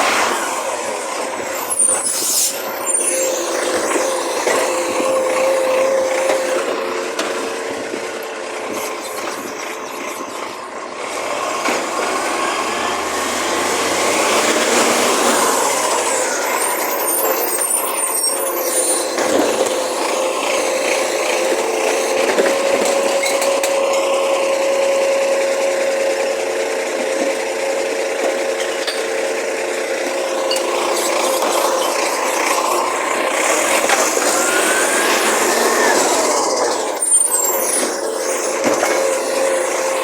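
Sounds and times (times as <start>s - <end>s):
mechanical whine: 0.0s - 11.1s, 11.8s - 24.8s, 29.9s - 40.0s
garbage truck engine: 0.0s - 40.0s.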